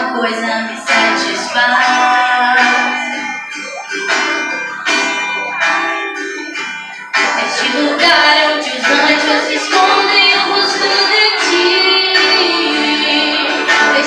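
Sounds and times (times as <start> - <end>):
person singing worship song: 0.0 - 14.0
bell-like chords ringing: 0.6 - 14.0.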